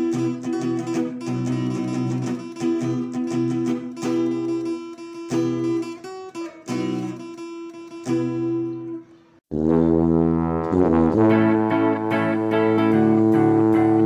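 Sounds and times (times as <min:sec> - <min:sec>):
acoustic guitar strumming chords: 0:00.0 - 0:09.2, 0:10.4 - 0:14.0.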